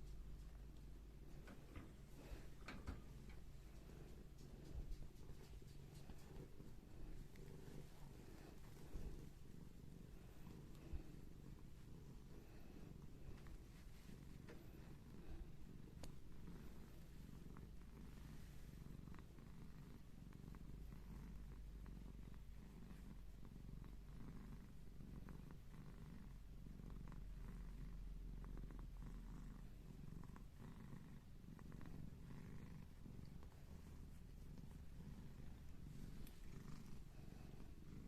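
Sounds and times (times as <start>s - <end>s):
cat purring: 0.0s - 38.0s.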